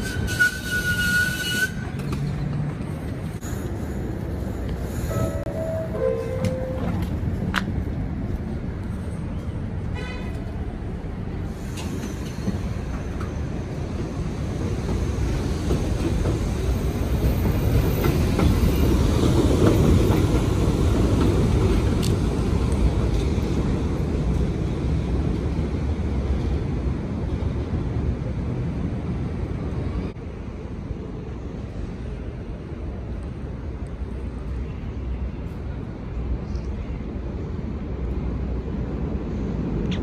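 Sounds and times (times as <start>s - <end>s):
subway train rumbling on rails: 0.0s - 40.0s.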